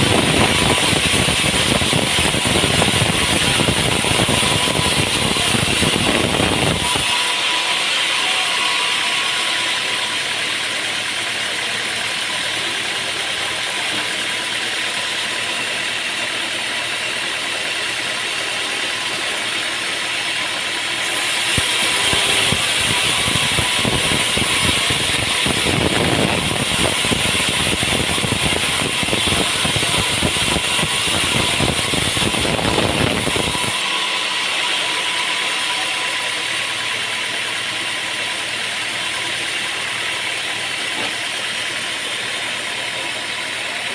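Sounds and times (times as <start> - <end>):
saw blade cutting a log: 0.0 - 43.9
sawmill running: 0.0 - 43.9.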